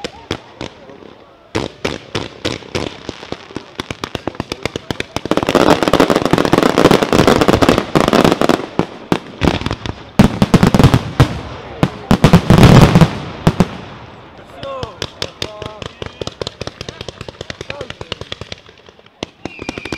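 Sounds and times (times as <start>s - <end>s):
fireworks crackling: 0.0s - 19.9s
fireworks launching and banging: 0.0s - 19.9s.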